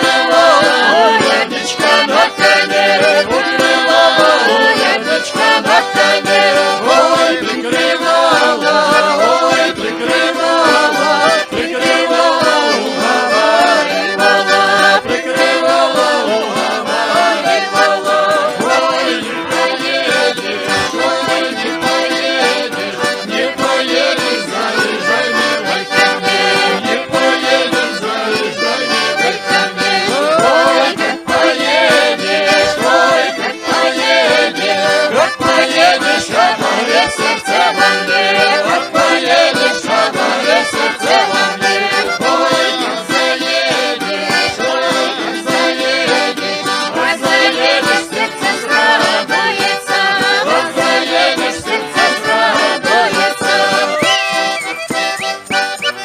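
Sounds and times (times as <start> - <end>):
accordion music: 0.0 - 56.0.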